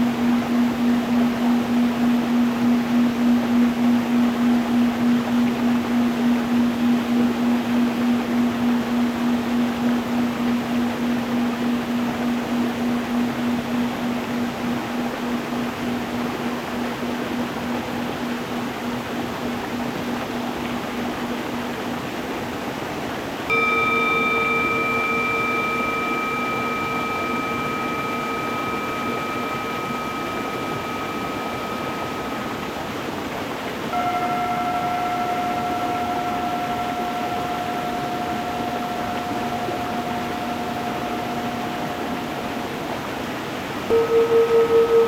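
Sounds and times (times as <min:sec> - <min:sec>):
singing bowls ringing: 0:00.0 - 0:22.2, 0:23.5 - 0:45.0
stream water rushing: 0:00.0 - 0:45.0.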